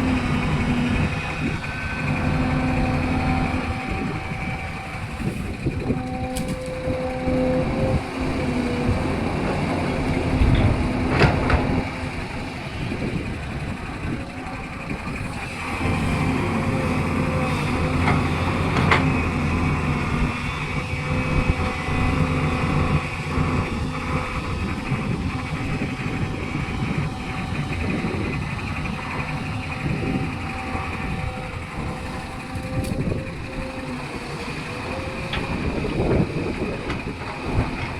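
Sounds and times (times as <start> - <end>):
excavator diesel engine under load: 0.0 - 37.9.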